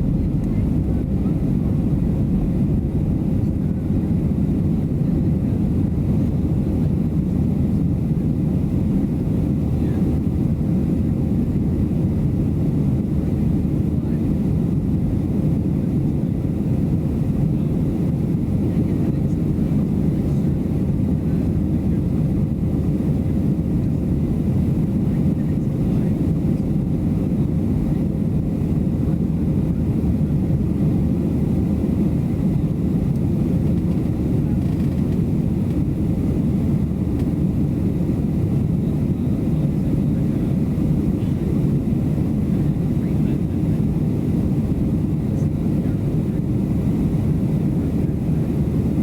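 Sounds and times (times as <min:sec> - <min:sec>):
jet airliner cabin rumble: 0:00.0 - 0:49.0.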